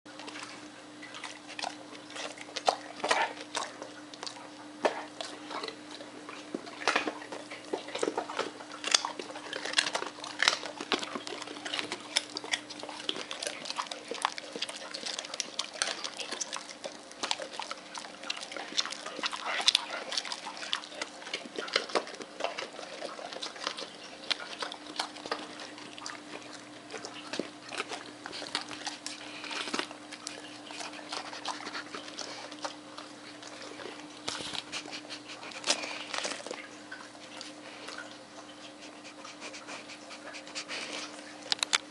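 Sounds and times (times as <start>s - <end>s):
dogs crunching carrots: 0.1s - 41.9s.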